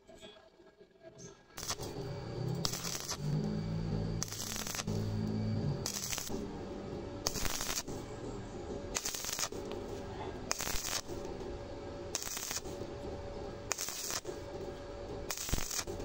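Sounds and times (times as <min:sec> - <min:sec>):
welding arc crackling: 0:01.6 - 0:16.0.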